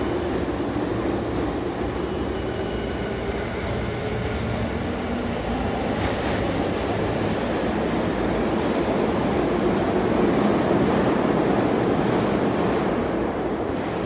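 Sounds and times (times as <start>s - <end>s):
train rumbling in a tunnel: 0.0s - 14.0s.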